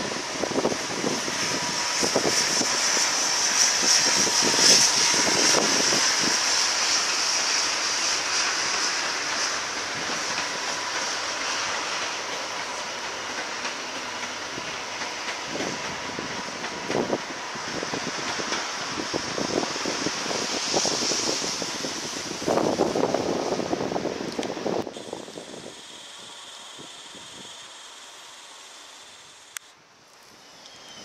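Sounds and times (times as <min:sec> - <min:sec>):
distant train rushing past: 0:00.0 - 0:31.0.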